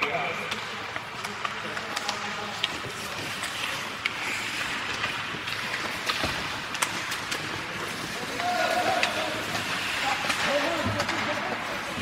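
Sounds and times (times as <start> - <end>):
hockey sticks striking puck: 0.0 - 12.0
skates scraping on ice: 0.3 - 12.0.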